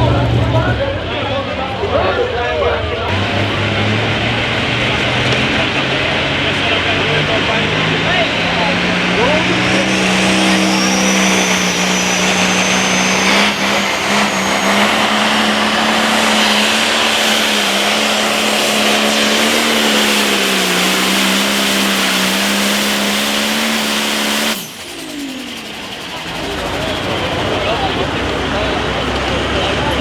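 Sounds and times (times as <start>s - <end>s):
turbo whine: 3.1s - 29.4s
tractor engine running under load: 3.1s - 30.0s.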